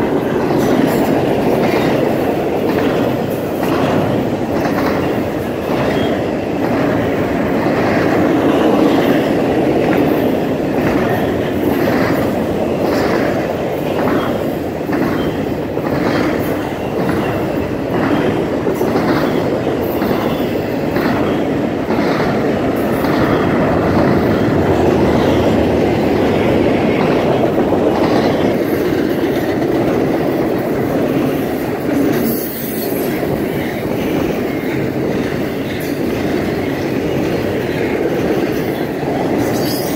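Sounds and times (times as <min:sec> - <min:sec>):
clickety-clack over rail joints: 0:00.0 - 0:39.9
steel wheels rumbling on rail: 0:00.0 - 0:39.9.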